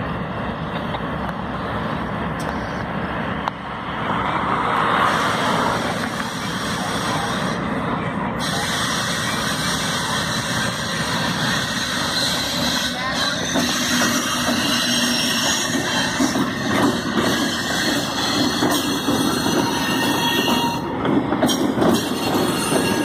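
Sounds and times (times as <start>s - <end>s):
diesel locomotives droning: 0.0s - 23.0s.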